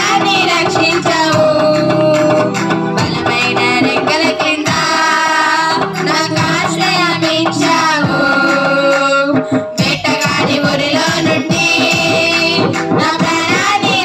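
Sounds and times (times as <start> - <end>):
amplified musical accompaniment: 0.0 - 14.0
women and girls singing: 0.0 - 14.0.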